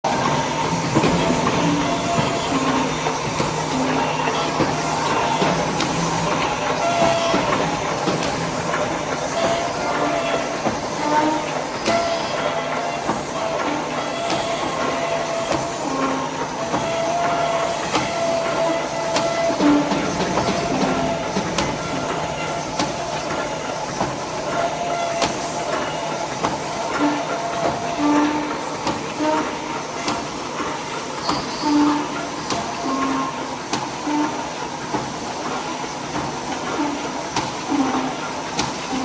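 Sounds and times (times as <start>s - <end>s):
machine clattering: 0.1s - 39.0s.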